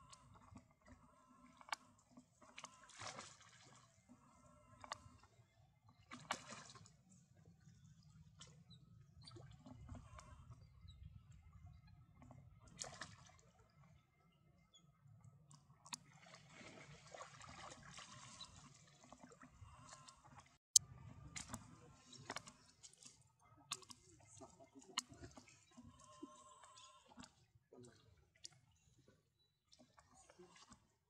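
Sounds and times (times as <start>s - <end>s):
water sloshing and splashing: 0.0s - 14.1s, 15.2s - 31.0s.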